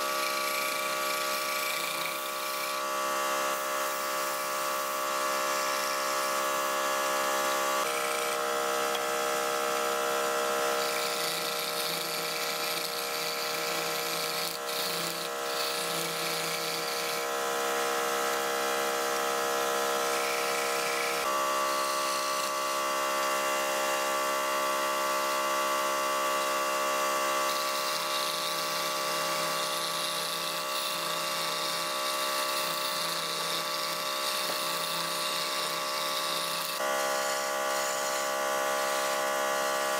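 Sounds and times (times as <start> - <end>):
chisel scraping spinning wood: 0.0 - 18.4, 19.0 - 23.4, 25.0 - 39.9
wood lathe motor whine: 0.0 - 39.9.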